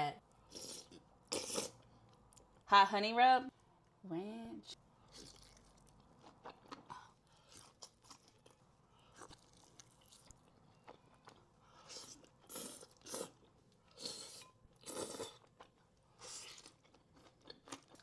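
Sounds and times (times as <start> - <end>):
person chewing: 0.5 - 2.5, 5.0 - 18.0.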